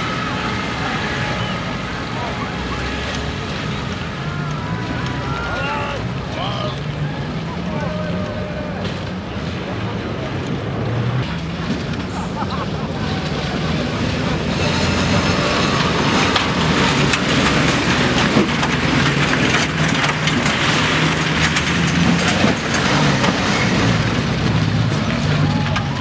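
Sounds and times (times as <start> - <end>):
off-road engines running hard: 0.0 - 26.0
tyres tearing through mud: 0.0 - 26.0.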